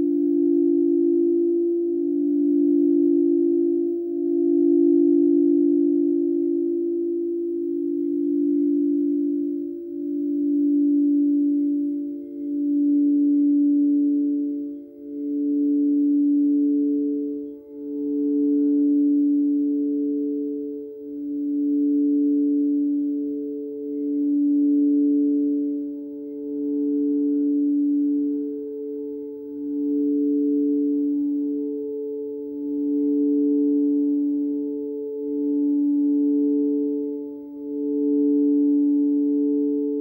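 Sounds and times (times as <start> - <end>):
singing bowls ringing: 0.0 - 40.0.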